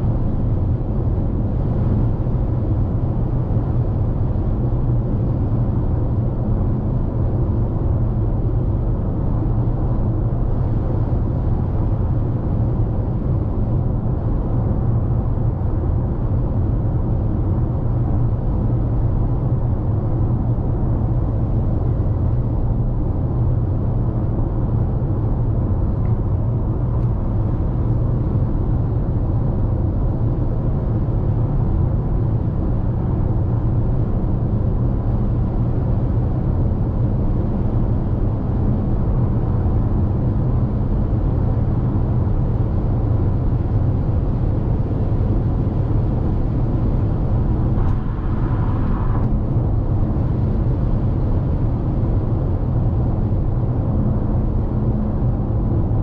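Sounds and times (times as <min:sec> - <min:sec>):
car cabin road rumble: 0:08.4 - 0:56.0.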